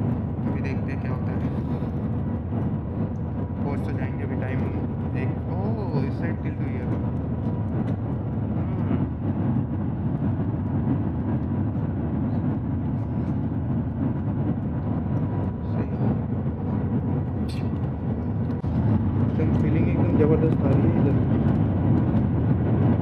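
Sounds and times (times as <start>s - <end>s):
train low rumble: 0.0s - 23.0s.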